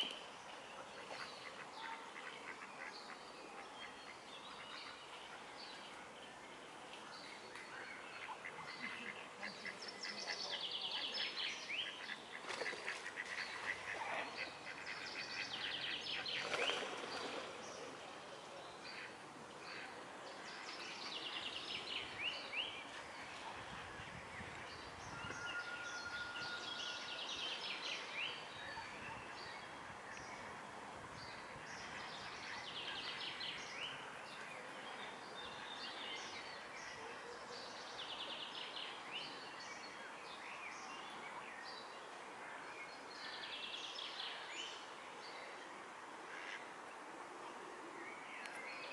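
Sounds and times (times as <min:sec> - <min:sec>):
songbirds singing: 0:00.0 - 0:46.6.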